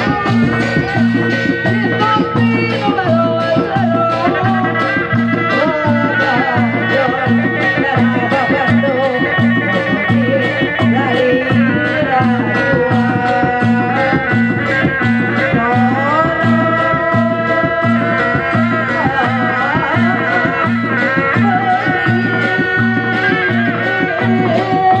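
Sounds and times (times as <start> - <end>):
steady drum beat: 0.0 - 25.0
wavering melody line: 0.0 - 25.0.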